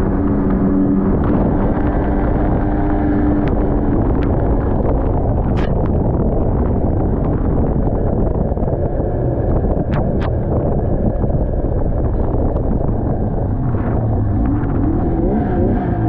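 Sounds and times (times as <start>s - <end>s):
snowmobile engine running: 0.0s - 16.0s
wind buffeting microphone: 0.0s - 16.0s.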